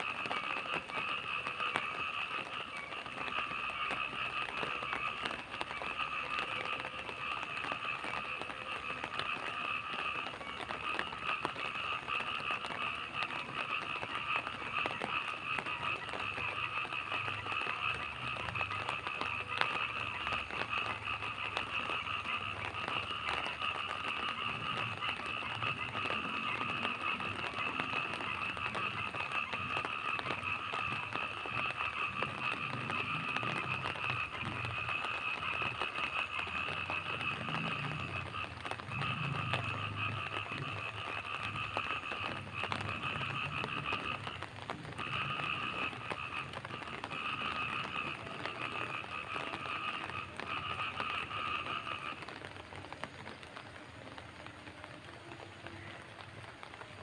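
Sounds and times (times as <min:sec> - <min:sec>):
frogs and insects chorus: 0:00.0 - 0:57.0
rain pattering: 0:00.0 - 0:57.0.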